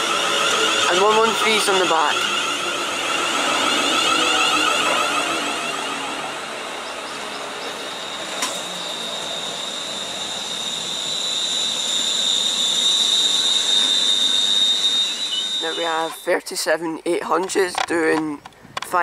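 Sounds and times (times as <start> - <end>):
electric train passing with whine: 0.0 - 16.8.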